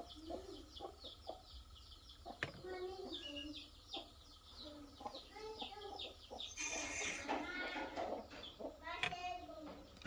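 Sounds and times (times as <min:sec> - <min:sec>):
high falling chirps: 0:00.0 - 0:08.9
chickens clucking: 0:00.0 - 0:10.0.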